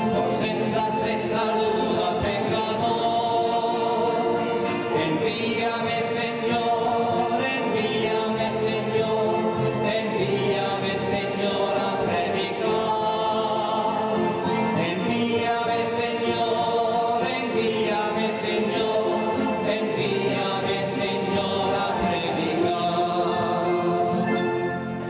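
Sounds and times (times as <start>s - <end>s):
voices singing a hymn: 0.0s - 25.0s.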